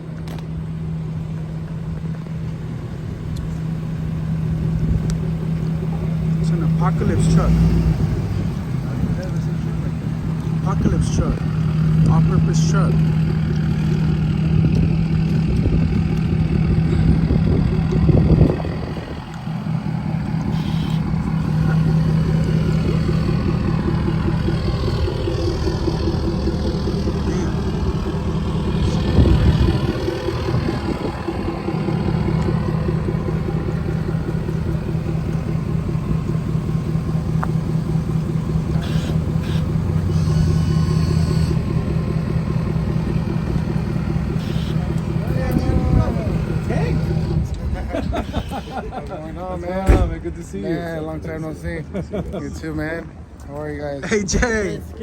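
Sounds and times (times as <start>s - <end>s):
truck engine droning: 0.0s - 55.0s.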